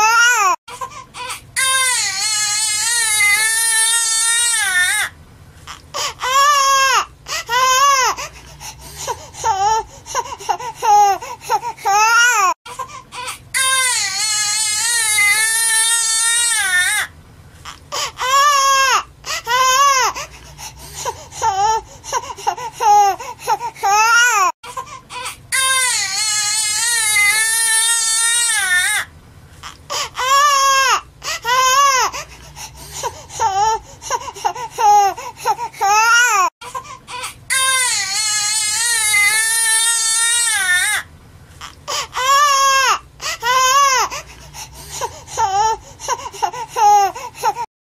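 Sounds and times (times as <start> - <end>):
baby crying: 0.0 - 5.1, 5.7 - 8.3, 9.4 - 17.1, 17.7 - 20.3, 21.4 - 32.3, 33.3 - 44.2, 45.0 - 47.7.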